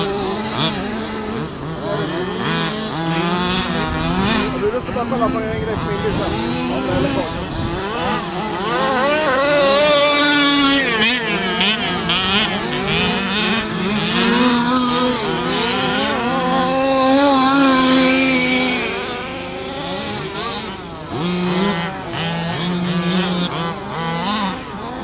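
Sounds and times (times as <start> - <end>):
rc cars buzzing and revving: 0.0 - 25.0.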